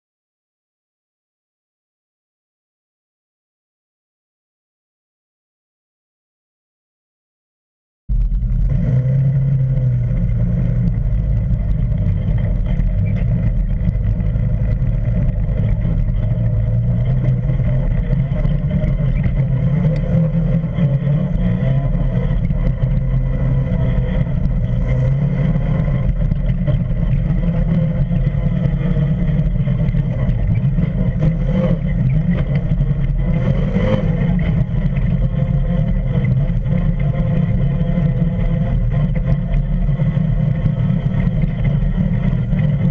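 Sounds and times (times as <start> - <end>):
vehicle engine rumble: 8.1 - 42.9.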